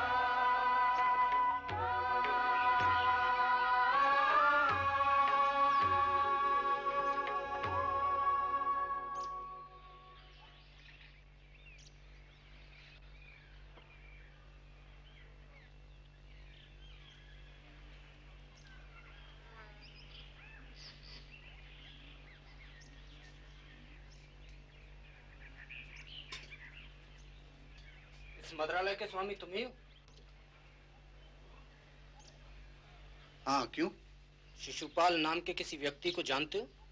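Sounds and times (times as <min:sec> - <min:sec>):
steady low hum: 0:00.0 - 0:36.9
small birds chirping: 0:05.2 - 0:07.4, 0:09.1 - 0:36.9.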